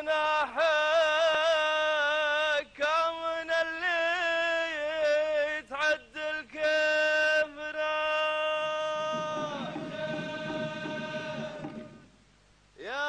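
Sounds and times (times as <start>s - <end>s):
man chanting unaccompanied: 0.0s - 12.1s, 12.8s - 13.0s.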